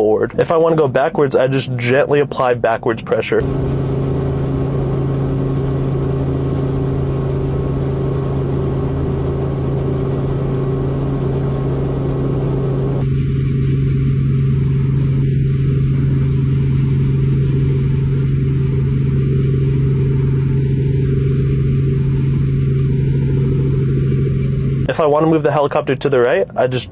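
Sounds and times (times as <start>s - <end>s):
helicopter engine and rotor drone: 3.1s - 26.9s.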